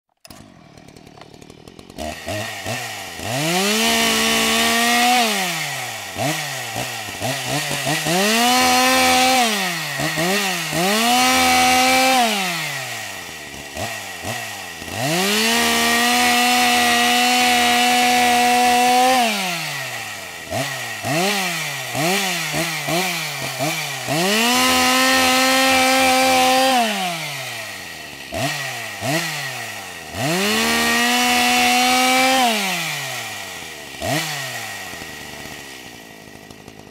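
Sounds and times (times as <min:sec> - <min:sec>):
chainsaw engine revving: 0:00.1 - 0:36.9.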